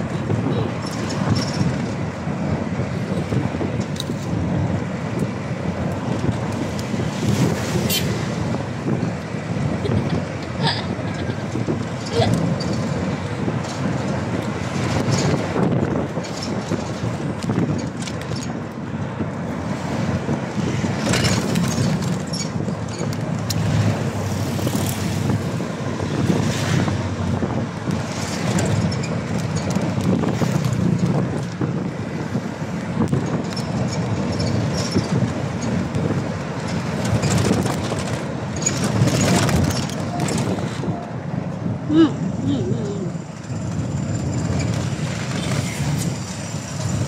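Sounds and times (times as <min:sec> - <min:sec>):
truck rumbling: 0:00.0 - 0:47.0
wind on microphone: 0:00.0 - 0:47.0.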